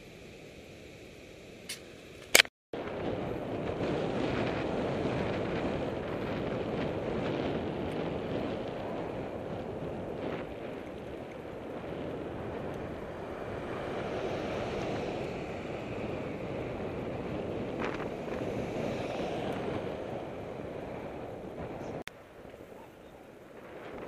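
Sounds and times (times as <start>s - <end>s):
road noise: 0.0s - 24.0s
wind rushing over microphone: 2.8s - 24.0s.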